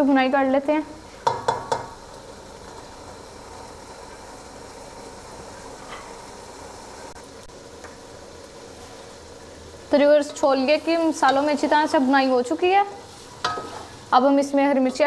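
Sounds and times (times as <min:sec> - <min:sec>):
chickpeas sizzling in a pot: 0:00.0 - 0:15.0.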